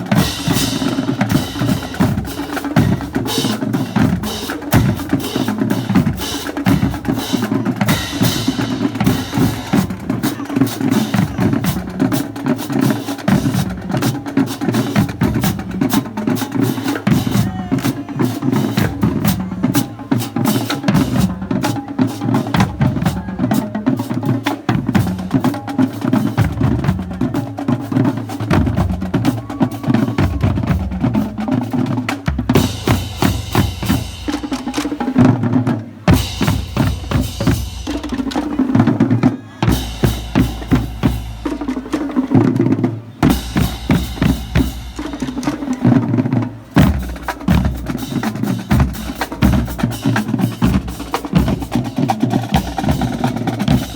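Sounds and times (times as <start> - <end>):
marching drumline cadence: 0.0 - 53.9.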